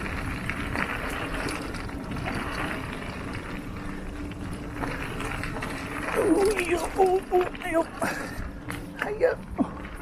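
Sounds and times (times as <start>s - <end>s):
bike clicks and rattles: 0.0s - 10.0s
bike rolling over dirt trail: 0.0s - 10.0s
wind rumbling on microphone: 0.0s - 10.0s.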